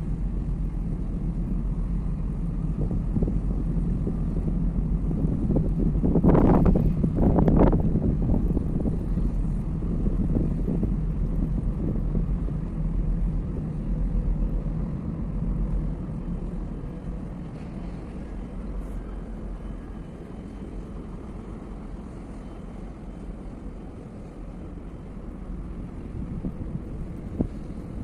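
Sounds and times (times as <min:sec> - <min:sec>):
ship engines rumbling: 0:00.0 - 0:28.0
wind buffeting microphone: 0:00.0 - 0:28.0.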